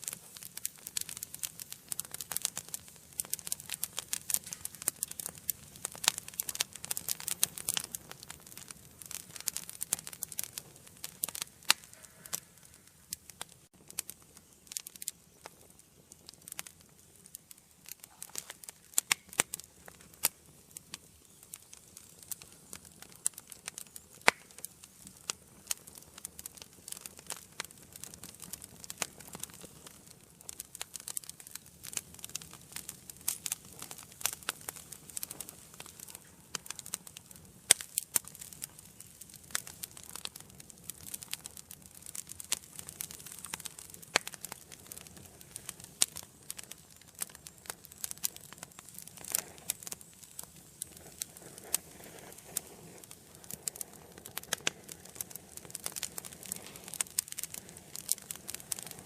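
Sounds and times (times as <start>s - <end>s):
faint hiss: 0.0s - 59.0s
wood fire crackling and popping: 0.0s - 59.0s.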